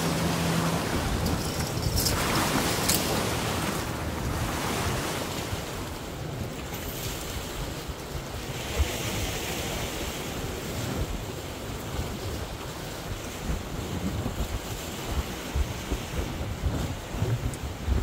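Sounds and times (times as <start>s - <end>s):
waves washing on rocky shore: 0.0s - 18.0s
wind buffeting microphone: 0.0s - 18.0s.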